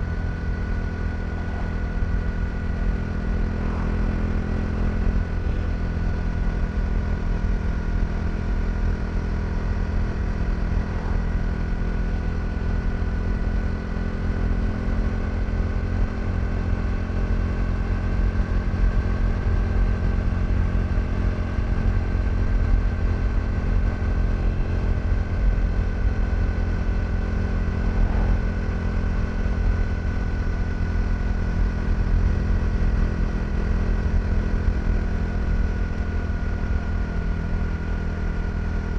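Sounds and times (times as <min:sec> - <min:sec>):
constant low rumble: 0:00.0 - 0:38.9
motorcycle engine cruising: 0:00.0 - 0:38.9.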